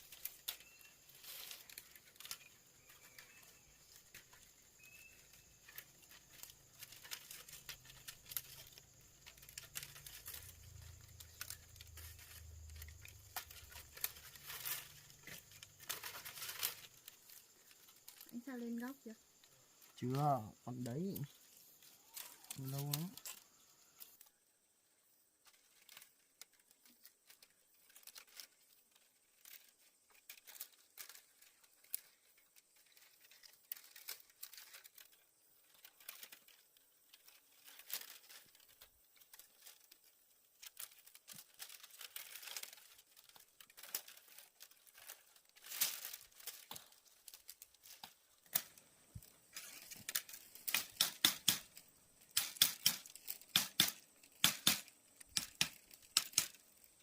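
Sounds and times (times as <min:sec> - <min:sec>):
bamboo strips rustling and clicking: 0:00.0 - 0:24.5, 0:25.2 - 0:57.0.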